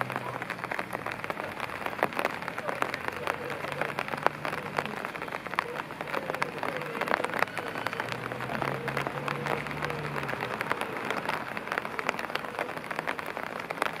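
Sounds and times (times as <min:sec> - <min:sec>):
rain falling: 0:00.0 - 0:14.0
raindrops hitting close by: 0:00.0 - 0:14.0.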